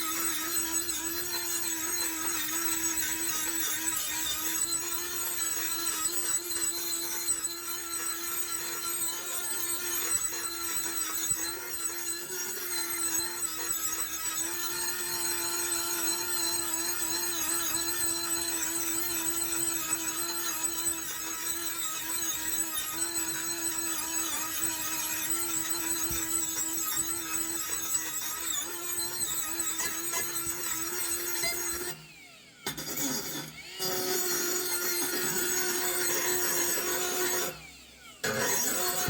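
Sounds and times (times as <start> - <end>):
power tool humming and whining: 0.0 - 39.0.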